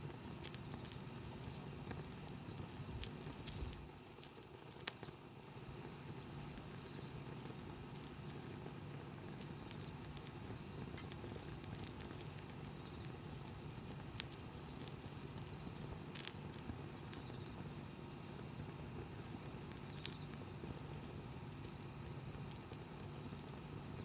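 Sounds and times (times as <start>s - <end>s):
campfire crackling: 0.0s - 24.0s
burning wood popping: 0.1s - 24.0s.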